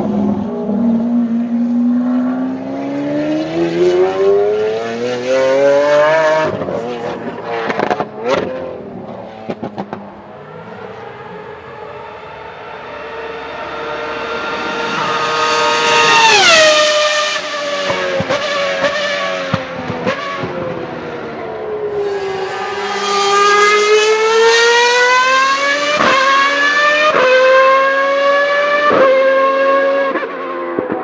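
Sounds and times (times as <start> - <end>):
racing car engine revving: 0.0 - 30.9.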